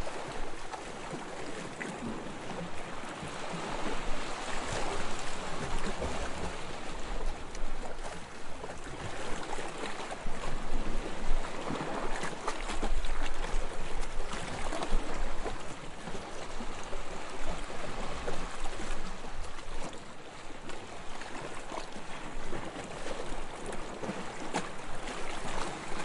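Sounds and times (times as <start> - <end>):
calm waves lapping: 0.0 - 26.0.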